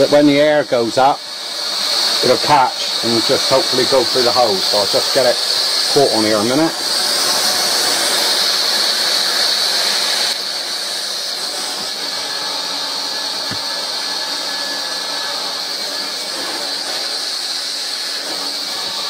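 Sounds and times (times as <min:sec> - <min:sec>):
hot-air welding gun fan hissing: 0:00.0 - 0:19.0.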